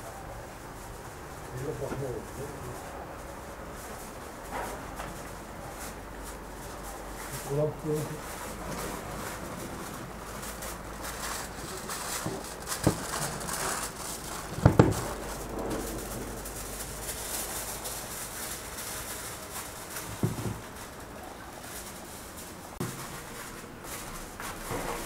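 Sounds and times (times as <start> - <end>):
aluminium foil crinkling: 0.0 - 25.0.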